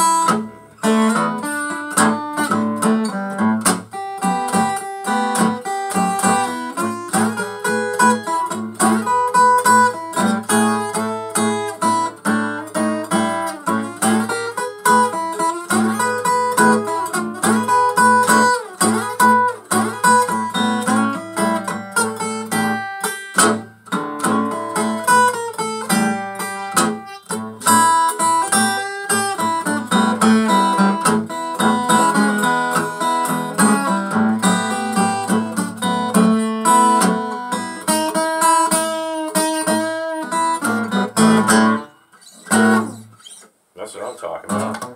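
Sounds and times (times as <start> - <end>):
acoustic guitar blues: 0.0 - 44.9.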